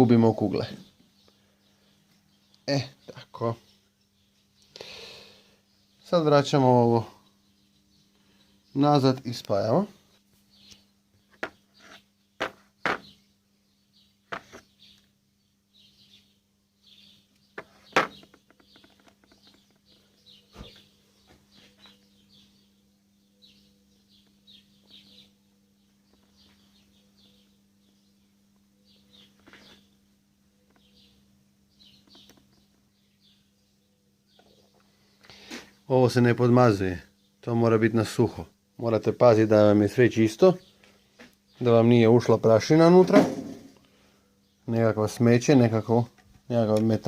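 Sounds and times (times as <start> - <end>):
faint bird chirps: 0.0 - 47.0.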